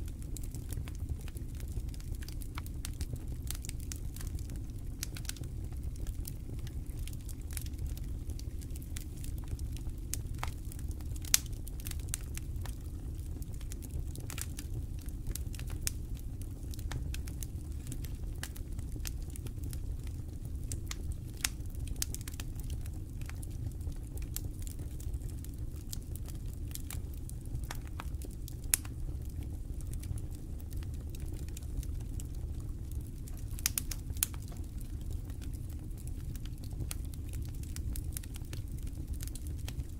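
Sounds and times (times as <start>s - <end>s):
campfire crackling and popping: 0.0s - 39.9s
low steady rumble: 0.0s - 39.9s.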